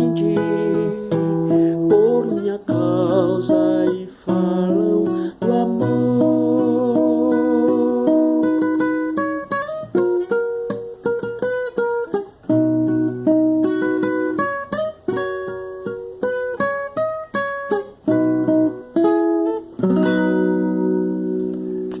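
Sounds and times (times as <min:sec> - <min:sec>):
acoustic guitar chord strummed: 0:00.0 - 0:22.0
acoustic guitar plucking melody: 0:00.0 - 0:22.0.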